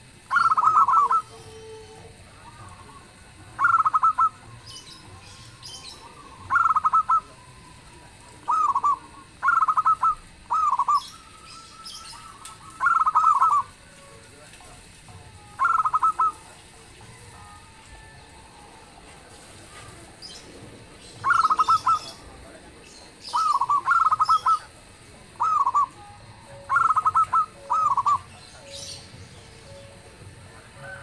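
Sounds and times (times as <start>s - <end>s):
doves cooing: 0.0s - 31.0s
faint high-pitched chirping: 0.1s - 31.0s.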